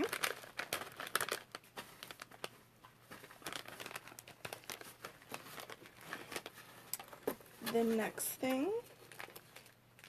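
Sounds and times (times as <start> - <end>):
foil snack bag crinkling: 0.0 - 10.0.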